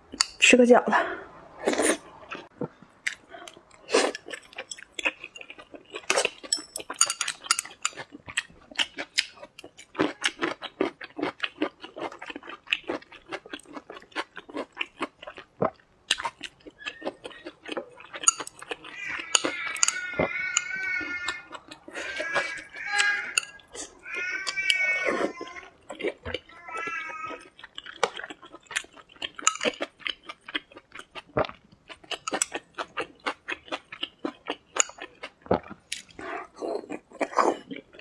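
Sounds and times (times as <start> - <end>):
wet chewing and smacking: 2.2 - 38.0.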